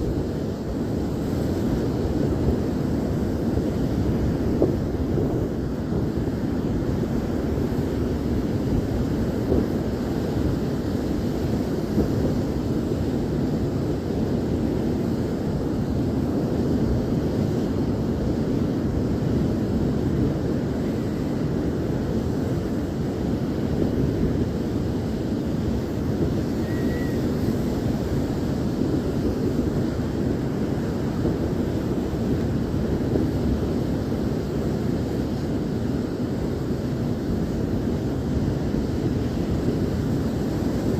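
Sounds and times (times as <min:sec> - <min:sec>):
ocean surf roaring: 0:00.0 - 0:40.9
wind buffeting microphone: 0:00.0 - 0:40.9.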